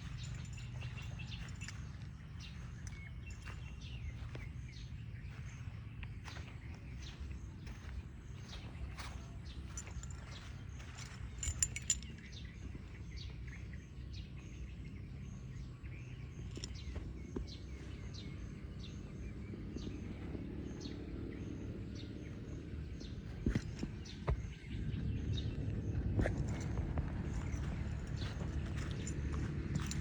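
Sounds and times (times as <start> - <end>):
low steady rumble: 0.0 - 30.0
small birds chirping: 0.0 - 30.0.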